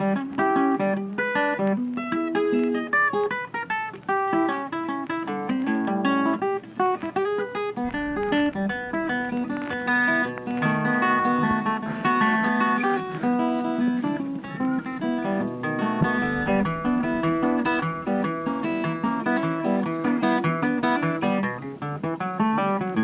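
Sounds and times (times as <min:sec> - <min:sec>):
guitar plucking fast notes: 0:00.0 - 0:23.0.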